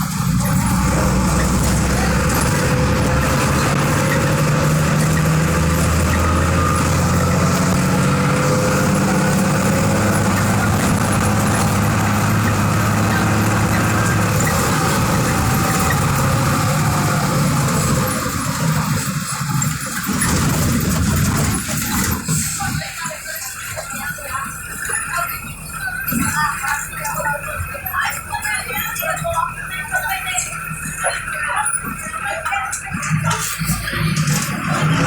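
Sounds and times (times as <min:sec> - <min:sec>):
bus diesel engine running: 0:00.0 - 0:35.0.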